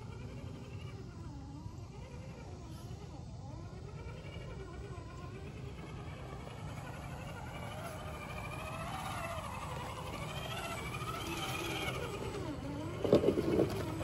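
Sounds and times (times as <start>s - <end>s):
electric motor and gears whining: 0.0s - 14.0s
toy truck rattling on rock: 0.0s - 14.0s.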